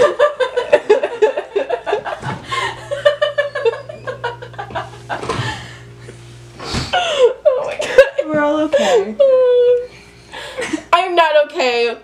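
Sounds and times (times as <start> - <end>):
young woman laughing: 0.0 - 5.8, 6.9 - 11.0
low steady hum: 0.0 - 12.0.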